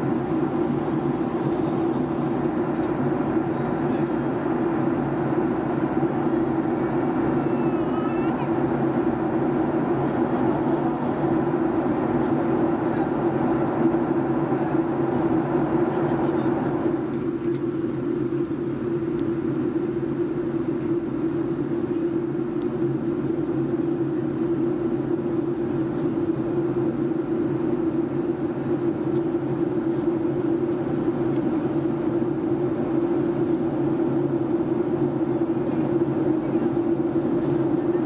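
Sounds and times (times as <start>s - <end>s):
airplane cabin engine drone: 0.0s - 38.0s.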